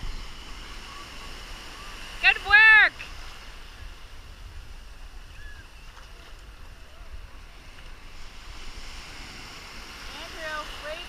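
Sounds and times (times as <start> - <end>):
surf washing and foaming: 0.0 - 11.0
wind buffeting microphone: 0.0 - 11.0.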